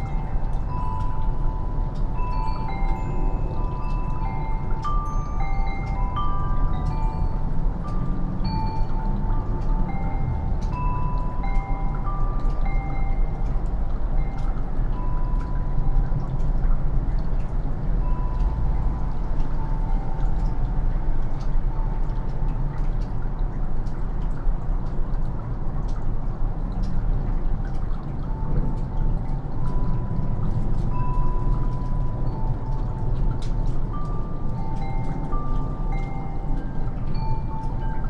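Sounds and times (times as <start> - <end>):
faint wind chimes: 0.0 - 38.0
melting snow dripping: 0.0 - 38.0.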